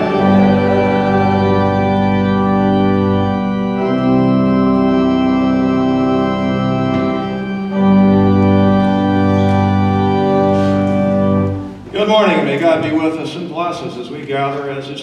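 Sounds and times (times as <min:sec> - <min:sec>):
church organ chords: 0:00.0 - 0:14.9.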